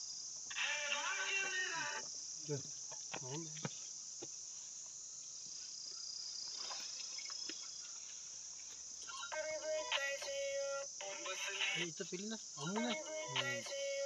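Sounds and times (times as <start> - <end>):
insect chorus: 0.0 - 14.0.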